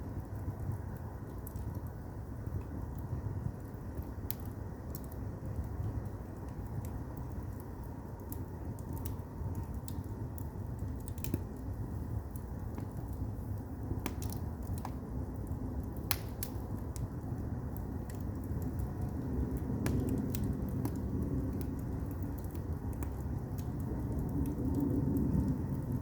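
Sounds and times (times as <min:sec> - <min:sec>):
fire rumbling: 0:00.0 - 0:26.0
firewood crackling and popping: 0:00.0 - 0:26.0.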